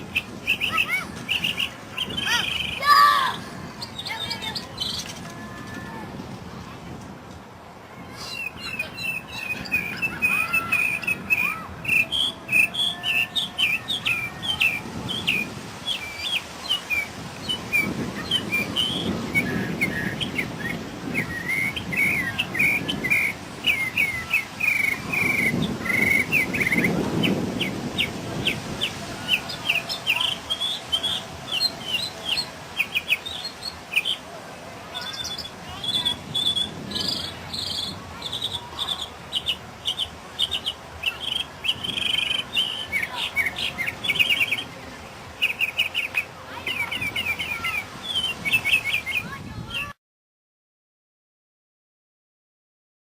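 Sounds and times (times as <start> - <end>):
mockingbird singing: 0.0 - 5.1, 8.2 - 34.2, 35.0 - 44.7, 45.4 - 49.9.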